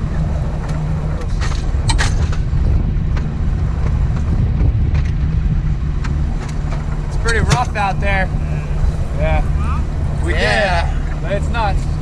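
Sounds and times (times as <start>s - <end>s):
water slapping against hull: 0.0s - 10.2s
outboard motor running: 0.0s - 12.0s.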